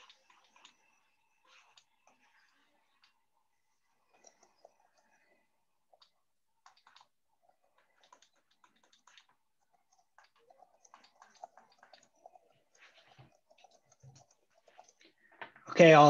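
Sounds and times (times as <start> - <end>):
faint clicking and tapping: 0.0 - 16.0.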